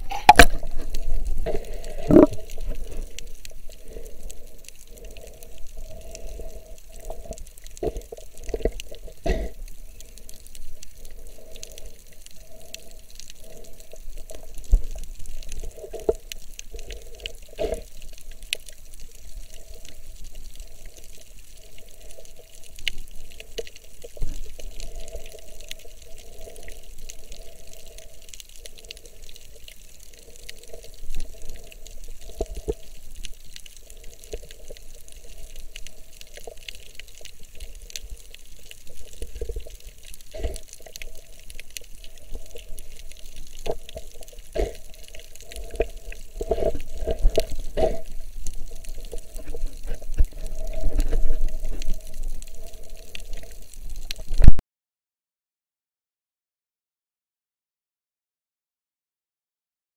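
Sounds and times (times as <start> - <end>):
sharp underwater clicks: 0.0 - 18.9, 19.5 - 54.6
muffled underwater water movement: 0.0 - 54.6.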